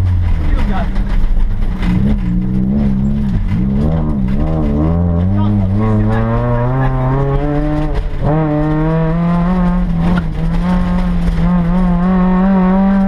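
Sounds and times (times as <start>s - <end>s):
rally car engine under load: 0.0s - 13.0s.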